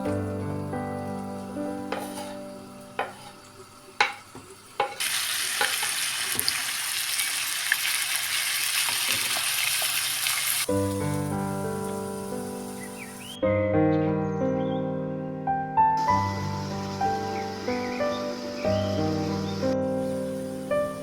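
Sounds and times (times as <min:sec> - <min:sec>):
food sizzling in hot oil: 0:00.0 - 0:13.4, 0:16.0 - 0:21.0.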